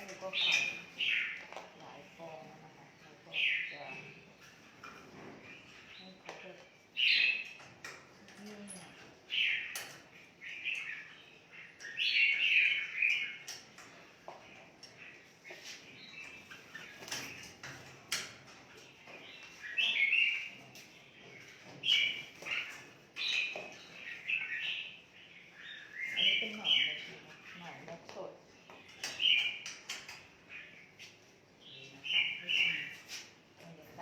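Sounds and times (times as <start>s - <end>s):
birds chirping and warbling: 0.0s - 34.0s.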